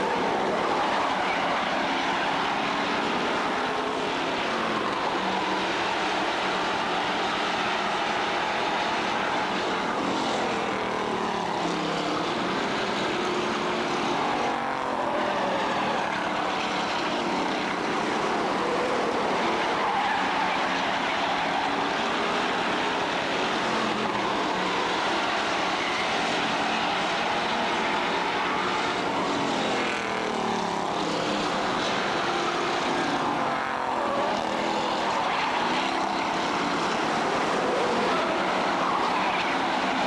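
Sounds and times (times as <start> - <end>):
race car engines passing: 0.0 - 40.0.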